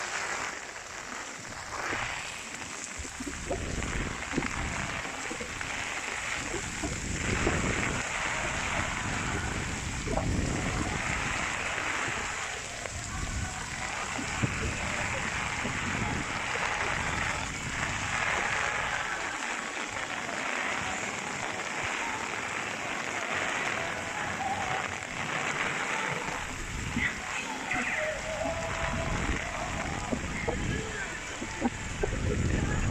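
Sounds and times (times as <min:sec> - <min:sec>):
heavy rain falling: 0:00.0 - 0:32.9
wind gusting against microphone: 0:01.3 - 0:32.9.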